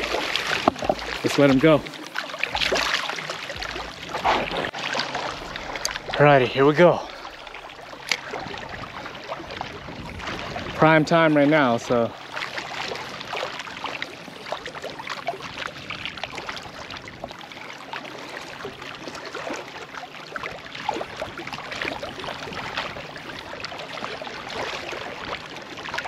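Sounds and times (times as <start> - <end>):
waves lapping against rocks: 0.0 - 26.0.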